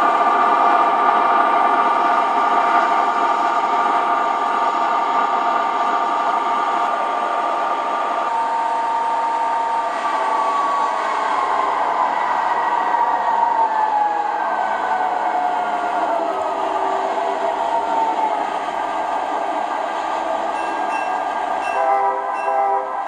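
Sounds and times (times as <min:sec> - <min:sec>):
model locomotives running on track: 0:00.0 - 0:23.0.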